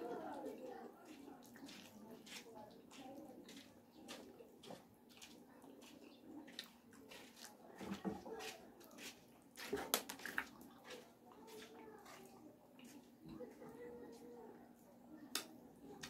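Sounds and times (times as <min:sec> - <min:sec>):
chewing and wet smacks: 0:00.2 - 0:14.3.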